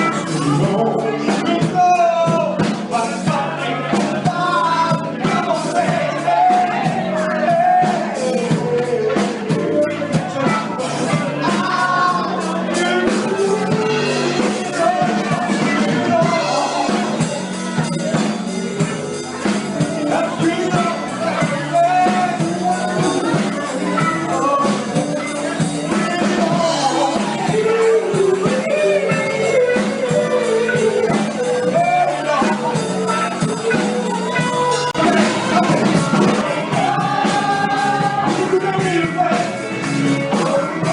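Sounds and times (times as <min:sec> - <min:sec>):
drums: 0:00.0 - 0:40.9
person singing: 0:00.0 - 0:40.9
soul band playing: 0:00.0 - 0:40.9.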